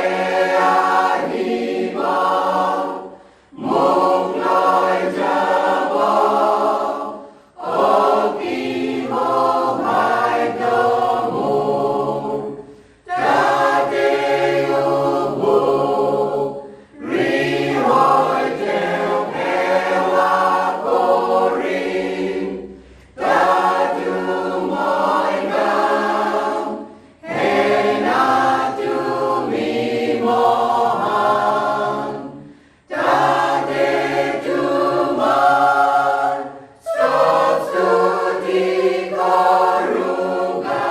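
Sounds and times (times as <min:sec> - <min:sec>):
choir singing: 0:00.0 - 0:40.9.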